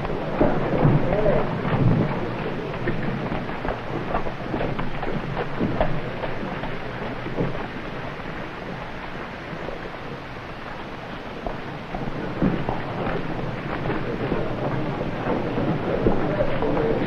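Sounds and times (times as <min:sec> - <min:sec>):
horses cantering on dirt: 0:00.0 - 0:17.0.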